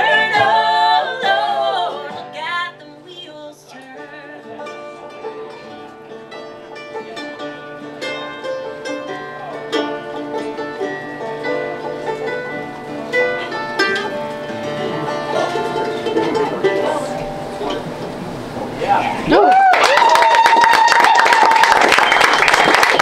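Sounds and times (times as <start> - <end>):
plucked string instrument tune: 0.0 - 19.3.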